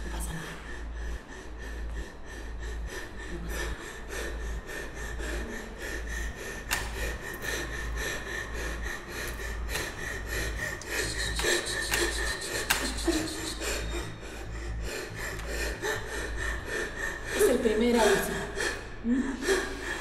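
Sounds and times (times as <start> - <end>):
low hum: 0.0 - 20.0
woman breathing fast and gasping: 0.6 - 20.0.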